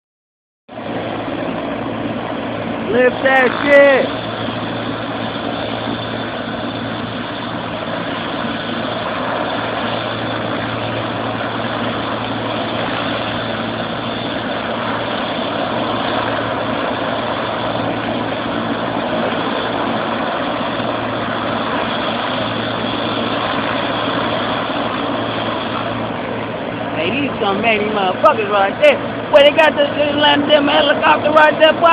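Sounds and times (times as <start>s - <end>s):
helicopter engine and rotor: 0.7s - 31.9s.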